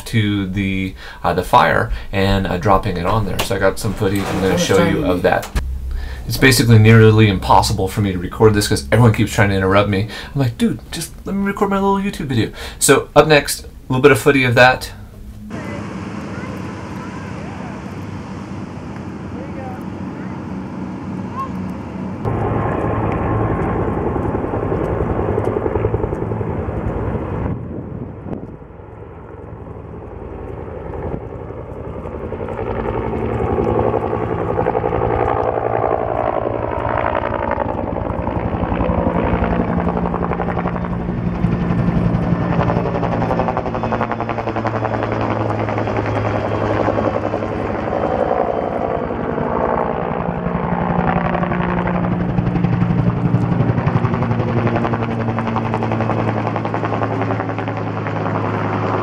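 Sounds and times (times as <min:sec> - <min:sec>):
helicopter rotor beating: 0:00.0 - 0:59.0.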